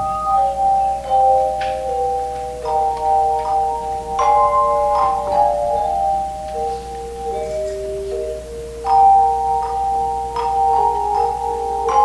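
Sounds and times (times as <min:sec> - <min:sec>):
handbell choir playing chords: 0:00.0 - 0:12.0.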